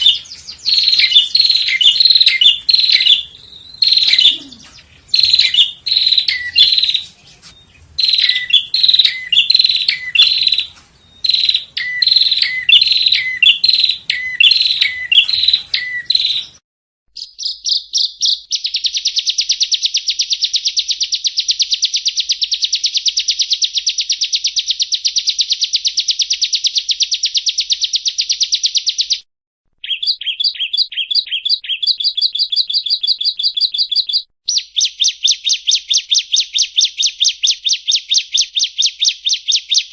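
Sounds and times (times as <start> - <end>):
bird chirping phrases: 0.0 - 16.6, 17.2 - 29.2, 29.8 - 39.9
bird trilling: 0.0 - 16.6, 17.2 - 29.2, 29.8 - 39.9.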